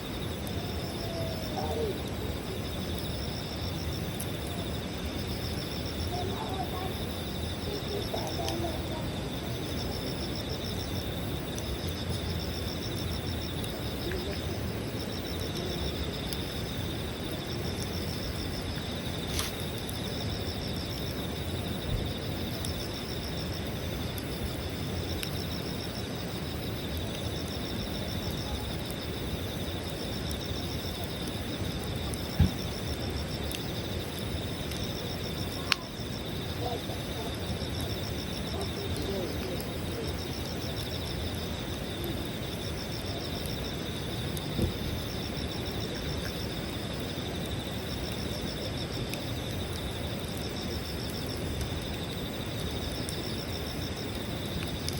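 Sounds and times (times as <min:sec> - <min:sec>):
campfire crackling and popping: 0:00.0 - 0:54.9
insects chirping: 0:00.0 - 0:54.9.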